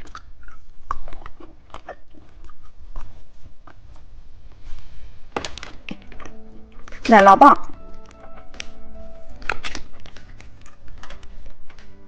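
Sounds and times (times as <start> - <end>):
candy being bitten and chewed: 0.0 - 4.8, 5.4 - 12.0.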